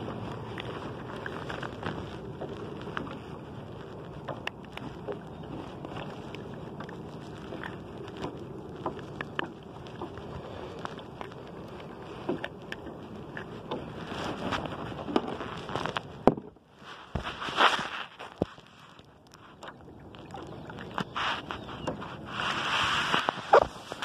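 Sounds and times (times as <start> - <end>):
water sloshing against hull: 0.0 - 24.0.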